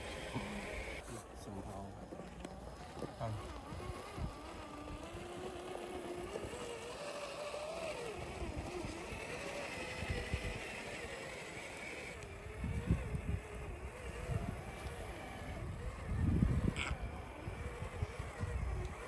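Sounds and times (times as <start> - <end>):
electric motor and gear whine: 0.0 - 19.0.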